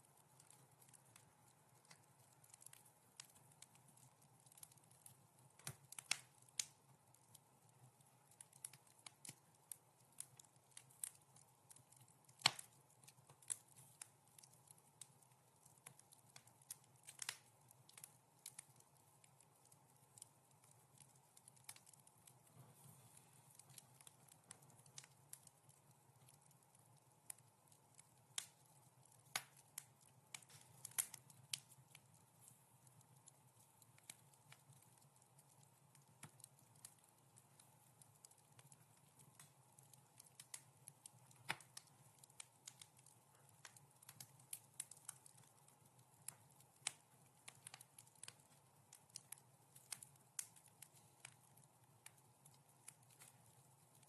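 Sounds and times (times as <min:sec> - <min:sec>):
faint steady hiss: 0:00.0 - 0:54.0
wood fire crackling: 0:00.0 - 0:54.0.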